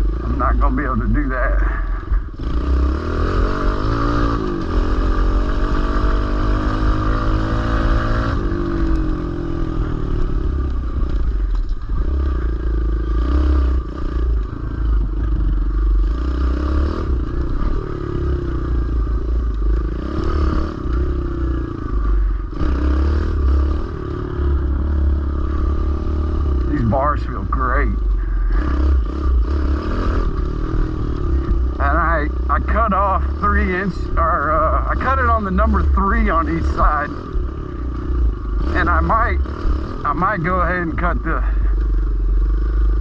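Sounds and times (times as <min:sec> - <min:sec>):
small motorbike engine revving: 0:01.7 - 0:41.8.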